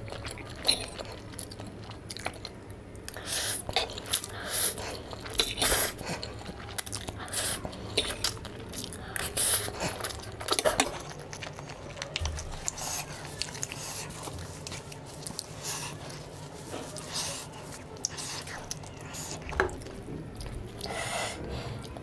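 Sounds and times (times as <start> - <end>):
person chewing noodles: 0.0 - 22.0.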